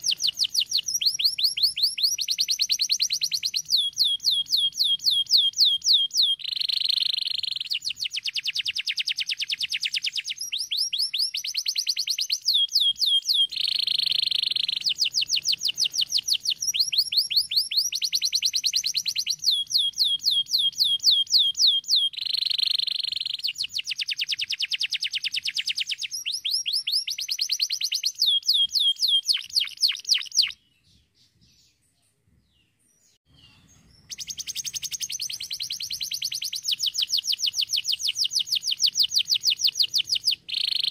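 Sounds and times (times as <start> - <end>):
canary singing rapid trills: 0.0 - 30.6, 33.3 - 40.9.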